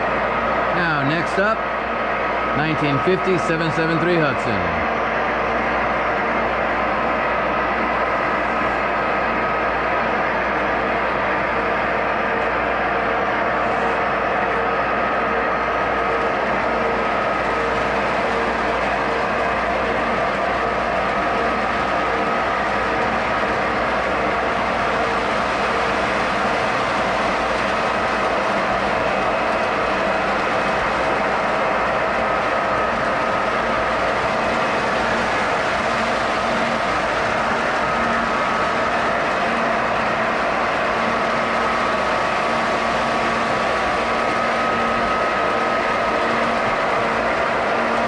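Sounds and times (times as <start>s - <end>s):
thin motor whine: 0.0s - 48.0s.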